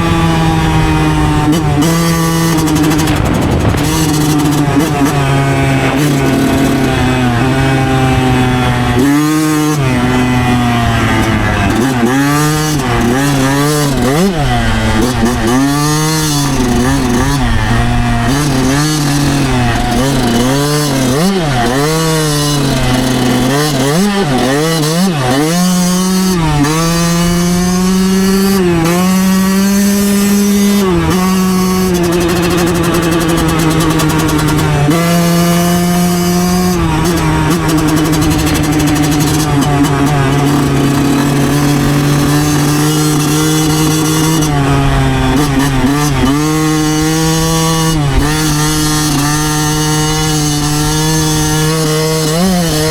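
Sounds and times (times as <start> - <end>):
two-stroke motorcycle engine: 0.0 - 52.9.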